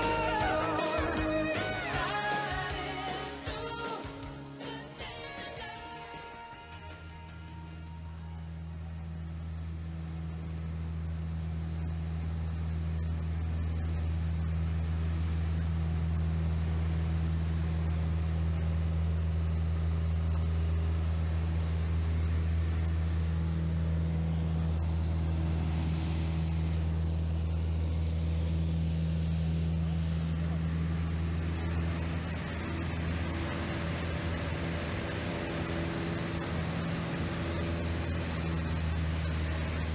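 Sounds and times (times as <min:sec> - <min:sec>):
propeller airplane engine droning: 0:00.0 - 0:04.6, 0:05.8 - 0:39.9.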